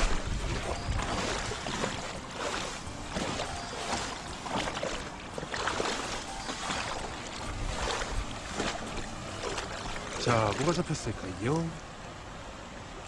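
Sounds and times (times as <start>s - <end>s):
grass rustling: 0.0s - 11.3s
water splashing and sloshing: 0.0s - 13.0s.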